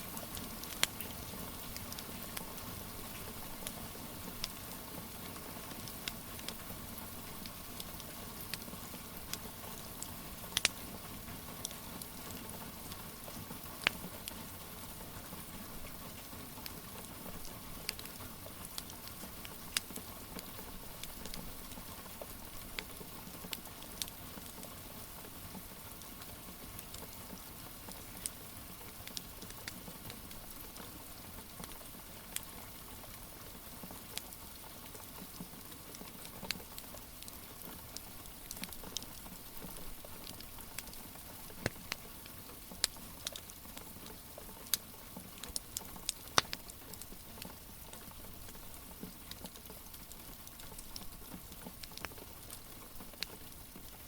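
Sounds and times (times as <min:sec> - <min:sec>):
wood fire crackling: 0:00.0 - 0:24.8, 0:26.0 - 0:33.2, 0:34.0 - 0:54.0
rain pattering: 0:00.0 - 0:54.0.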